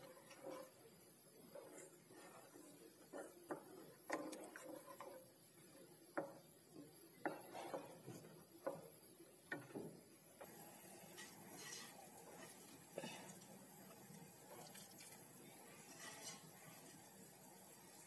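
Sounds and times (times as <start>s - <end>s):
spatula scraping a pan: 0.0s - 6.4s, 7.2s - 8.9s, 10.4s - 18.0s.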